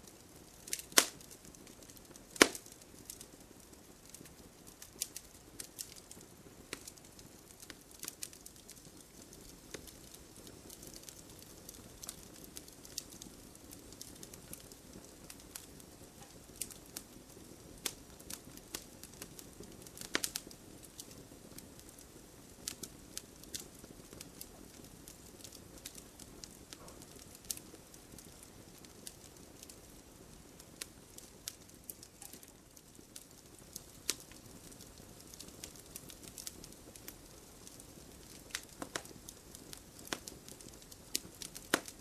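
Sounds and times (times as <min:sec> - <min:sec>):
fire crackling in a fireplace: 0:00.0 - 0:42.0.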